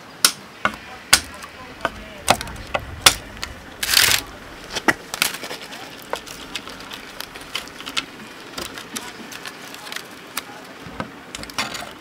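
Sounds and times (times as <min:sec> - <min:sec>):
rustle: 0:00.8 - 0:12.0.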